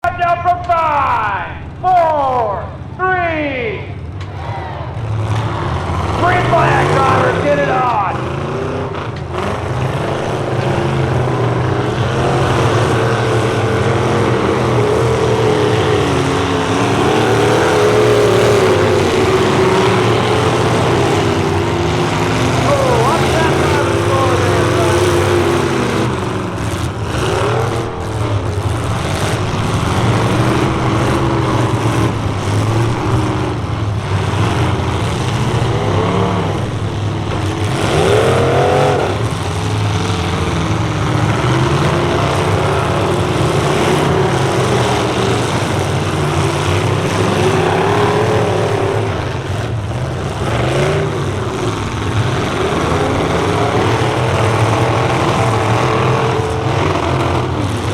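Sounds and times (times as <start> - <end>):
pickup truck engines revving: 0.0 - 57.9.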